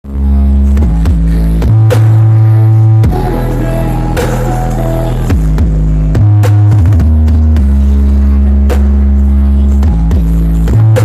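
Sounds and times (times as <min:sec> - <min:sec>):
loud dance music with heavy bass: 0:00.1 - 0:11.0.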